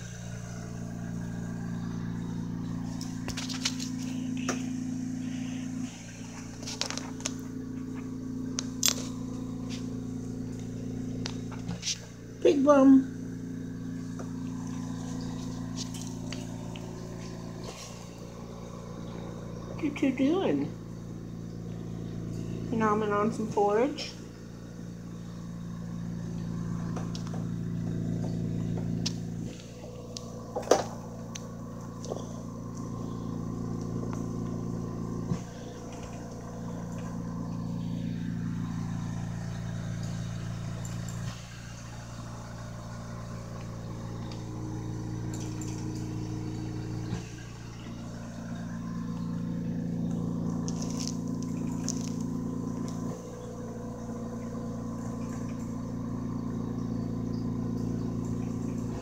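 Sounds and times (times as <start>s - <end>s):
low motor hum: 0.0s - 59.0s.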